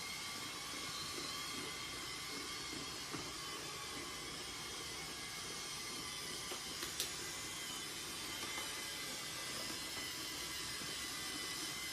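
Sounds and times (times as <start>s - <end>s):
toy train motor whirring: 0.0s - 11.9s.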